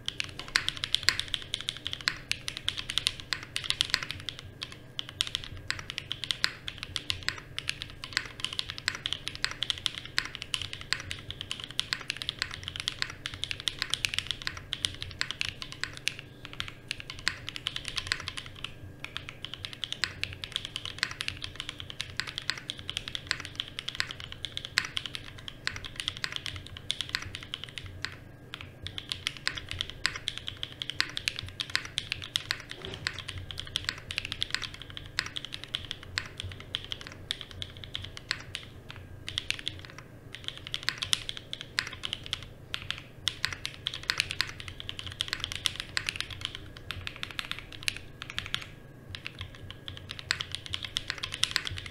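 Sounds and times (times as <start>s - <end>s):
mechanical keyboard typing: 0.0s - 51.9s.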